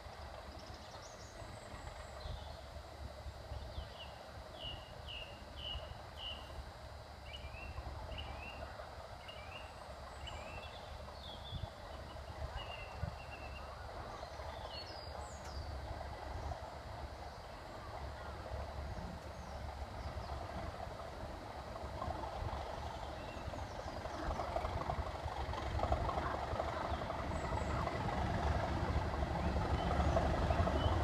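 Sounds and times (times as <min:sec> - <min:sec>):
distant diesel locomotive rumble: 0:00.0 - 0:31.0.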